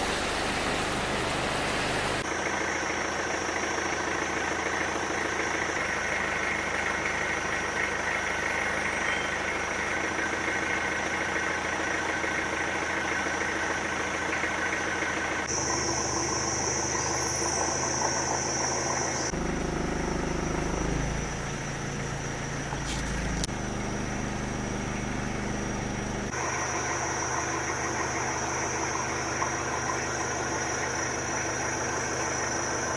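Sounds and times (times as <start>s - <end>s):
vehicle engine hum: 0.0s - 32.9s.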